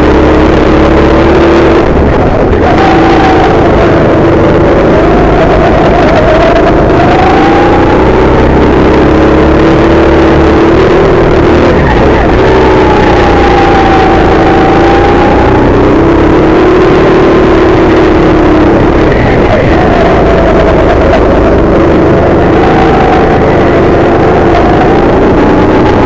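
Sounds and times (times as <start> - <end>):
go-kart engine running hard: 0.0 - 26.0.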